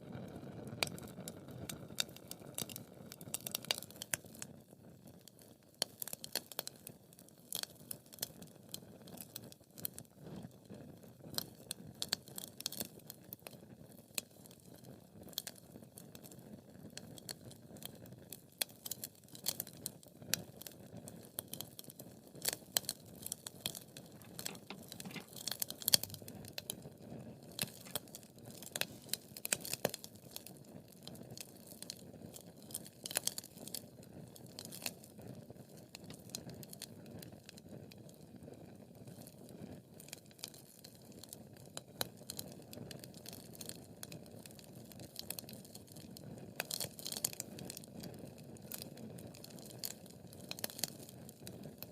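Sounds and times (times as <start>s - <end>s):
soft rustle of flames: 0.0s - 51.9s
wood fire crackling and popping: 0.2s - 51.9s.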